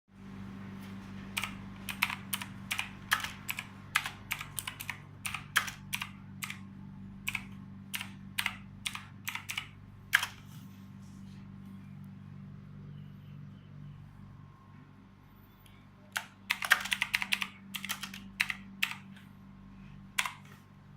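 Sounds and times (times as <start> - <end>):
steady low hum: 0.2 - 20.9.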